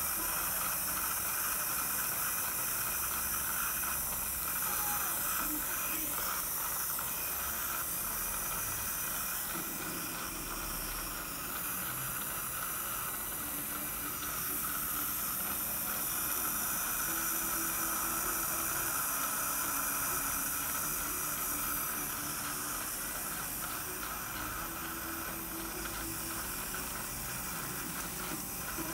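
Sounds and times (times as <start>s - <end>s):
dental suction hissing: 0.0s - 28.9s.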